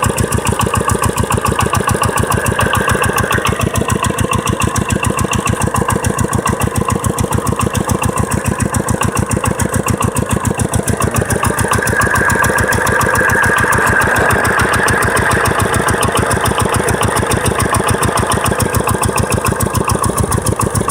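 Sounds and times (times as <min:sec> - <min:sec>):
diesel engine knocking beat: 0:00.0 - 0:20.9.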